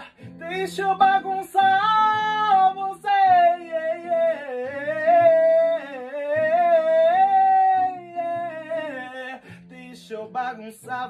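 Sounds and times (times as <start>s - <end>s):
man singing wordless vocal run: 0.0s - 11.0s.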